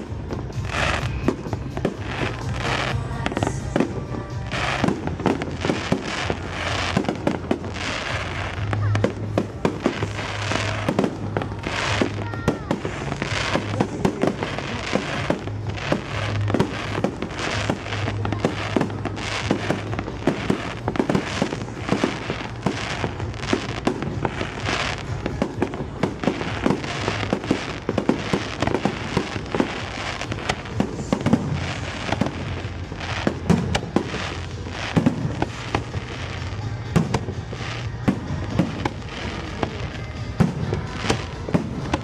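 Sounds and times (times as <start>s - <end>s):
fireworks bursting: 0.0s - 42.0s
music playing: 0.0s - 42.0s.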